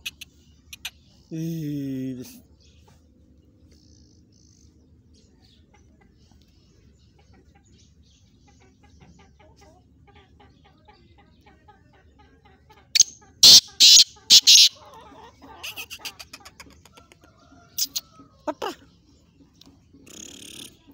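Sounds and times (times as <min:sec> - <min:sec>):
francolin chick clucking calls: 0:00.0 - 0:01.3, 0:05.4 - 0:20.9.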